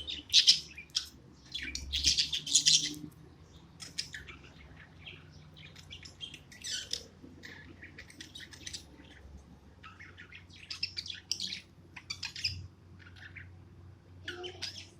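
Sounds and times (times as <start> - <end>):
budgerigar chirping: 0.0 - 3.0, 3.8 - 9.2, 9.8 - 13.5, 14.3 - 14.9.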